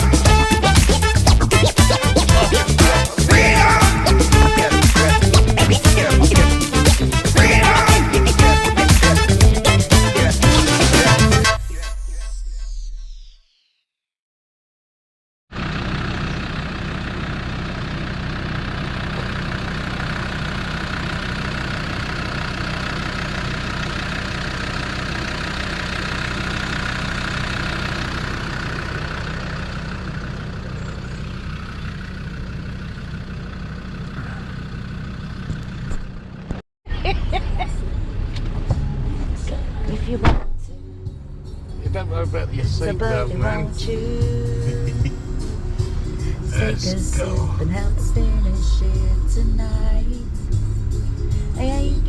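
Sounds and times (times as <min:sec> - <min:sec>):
road and cabin noise: 0:00.0 - 0:11.6, 0:15.6 - 0:52.0
car engine running: 0:00.0 - 0:12.1, 0:15.5 - 0:36.6, 0:37.8 - 0:52.0.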